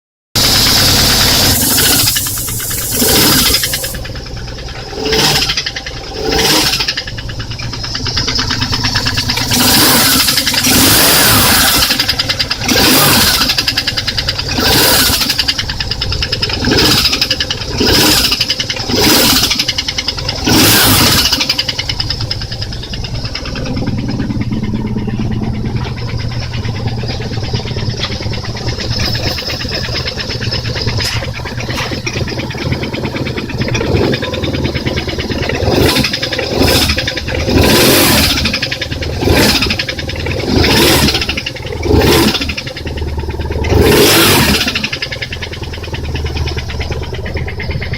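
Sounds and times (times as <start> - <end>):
motorcycle engine revving and idling: 0.4 - 47.9.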